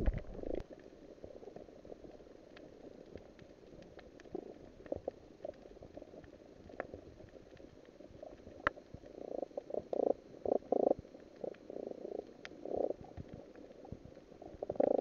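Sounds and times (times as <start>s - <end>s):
underwater bubbling and gurgling: 0.0s - 15.0s
sharp clicks underwater: 2.4s - 15.0s.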